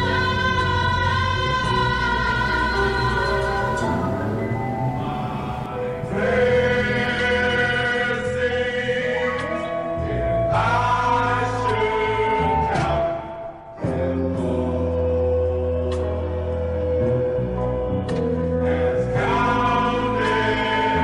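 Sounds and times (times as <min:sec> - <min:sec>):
choir singing held chords: 0:00.0 - 0:17.0, 0:18.6 - 0:21.0.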